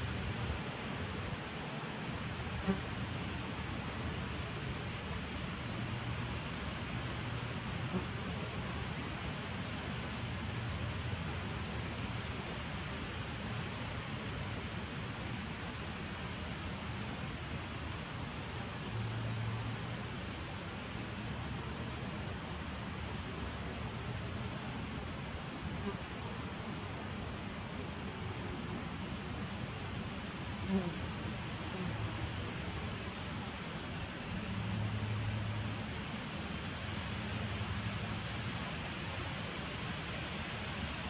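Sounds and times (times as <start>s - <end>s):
high-pitched hiss: 0.0s - 41.0s.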